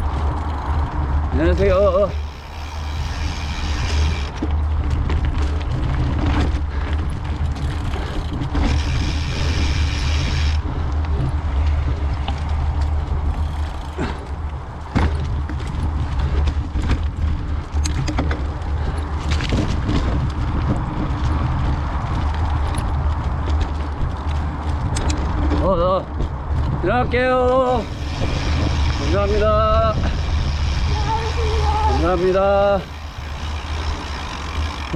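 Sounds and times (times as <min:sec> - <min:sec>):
bike knocks and rattles: 0:00.0 - 0:34.9
wind rumble on microphone: 0:00.0 - 0:34.9.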